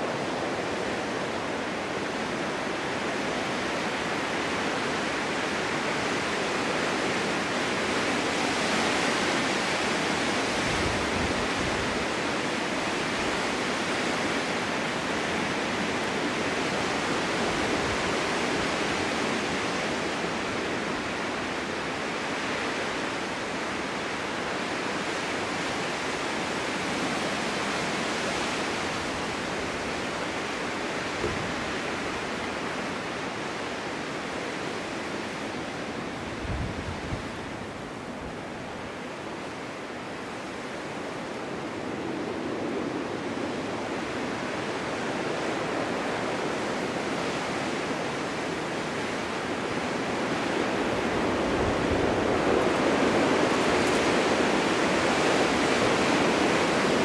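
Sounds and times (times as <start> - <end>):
snowstorm wind blowing: 0.0 - 57.0.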